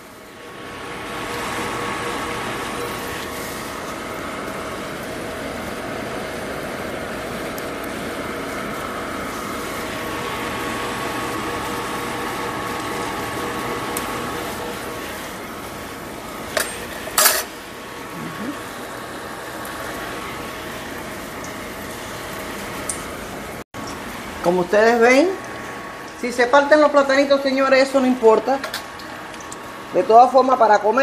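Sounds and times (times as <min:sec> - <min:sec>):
food sizzling in hot oil: 0:00.0 - 0:26.2.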